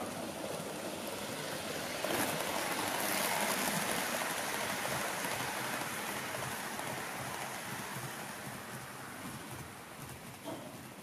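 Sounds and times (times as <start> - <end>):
model train rolling on rails: 0.0 - 11.0.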